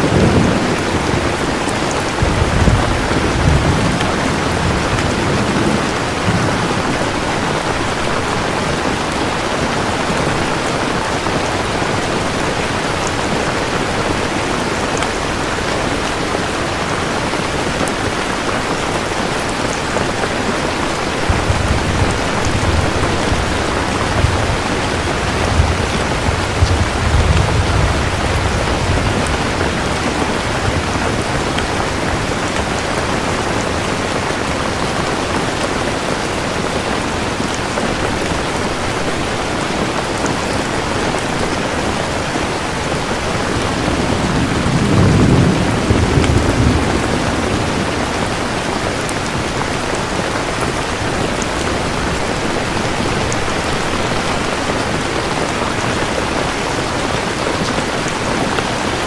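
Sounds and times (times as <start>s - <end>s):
thunder rumbling: 0.0s - 58.7s
heavy rain falling: 0.0s - 59.0s.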